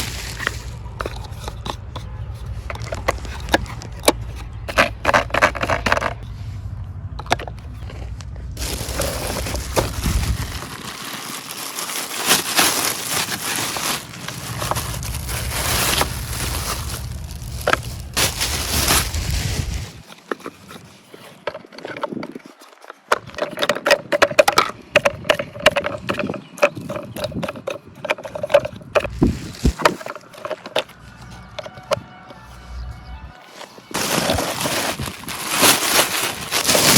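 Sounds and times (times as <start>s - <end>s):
packaging scraping and rustling: 0.0s - 6.2s, 7.8s - 32.8s, 33.4s - 36.9s.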